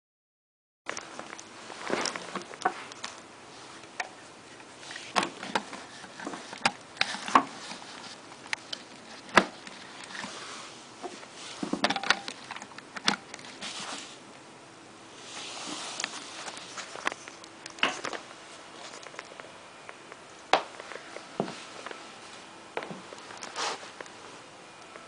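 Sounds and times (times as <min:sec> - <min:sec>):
rustling: 0:00.9 - 0:14.2, 0:15.2 - 0:19.4, 0:20.6 - 0:24.5.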